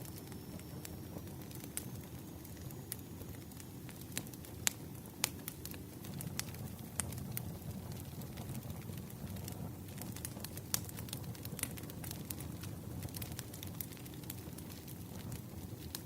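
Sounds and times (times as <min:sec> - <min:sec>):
fire popping and crackling: 0:00.0 - 0:16.0
firewood burning: 0:00.0 - 0:16.0.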